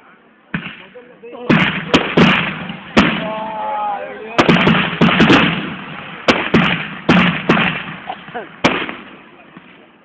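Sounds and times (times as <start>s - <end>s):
fireworks banging and crackling: 0.5s - 10.0s.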